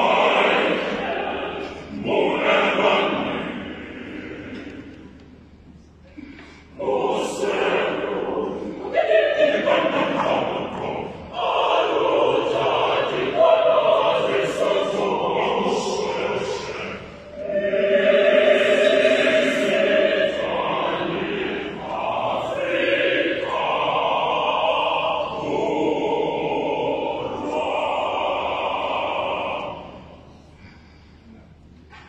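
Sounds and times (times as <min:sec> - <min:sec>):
mixed choir singing: 0:00.0 - 0:05.4, 0:06.7 - 0:30.8.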